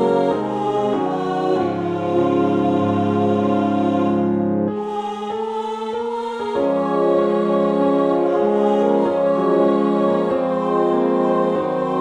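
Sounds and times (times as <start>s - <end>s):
piano: 0.0s - 12.0s
soprano singing melody: 0.0s - 12.0s.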